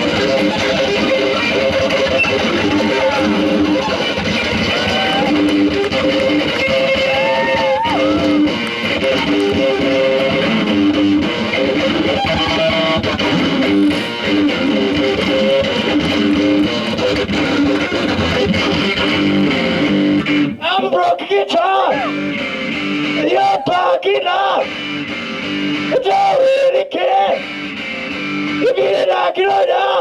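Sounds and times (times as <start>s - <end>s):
bass guitar: 0.0s - 29.1s
strummed electric guitar: 0.0s - 30.0s.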